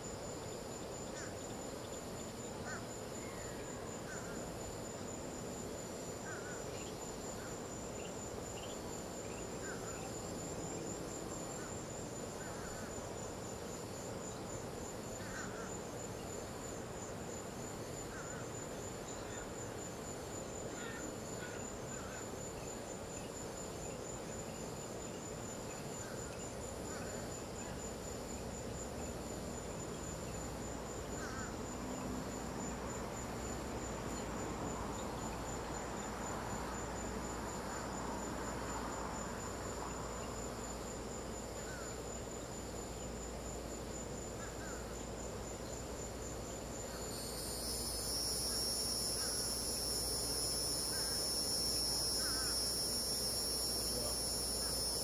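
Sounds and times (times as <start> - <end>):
crickets chirping: 0.0 - 55.0
louder insect trill: 0.0 - 55.0.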